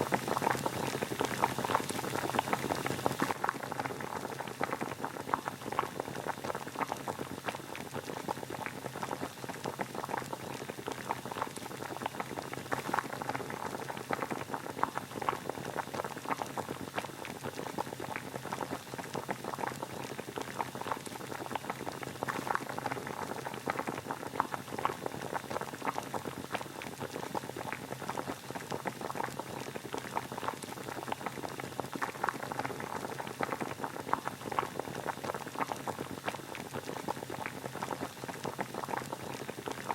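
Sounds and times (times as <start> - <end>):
water boiling and bubbling: 0.0 - 39.9.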